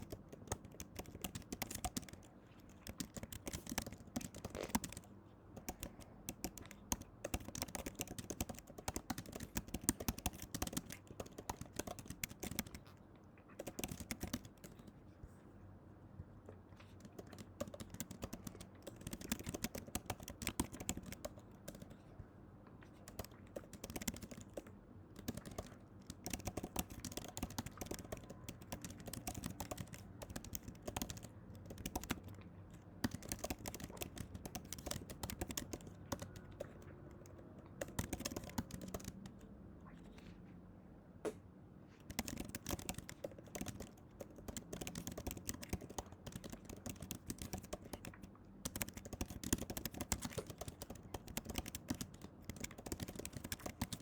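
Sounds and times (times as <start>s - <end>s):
rapid irregular clicking and tapping: 0.0s - 15.4s, 16.4s - 40.2s, 41.2s - 54.0s.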